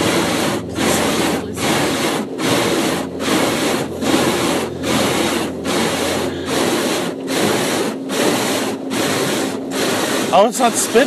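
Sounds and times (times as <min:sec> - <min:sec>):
car wash brushes scrubbing: 0:00.0 - 0:11.0.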